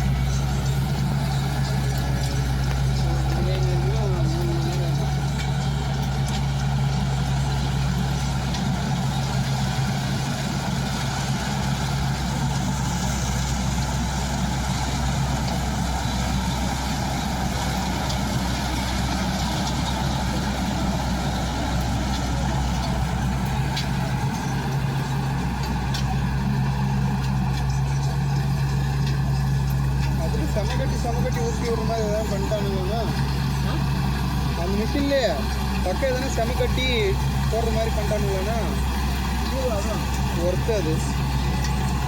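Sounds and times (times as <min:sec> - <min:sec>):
diesel engine running steadily: 0:00.0 - 0:42.0.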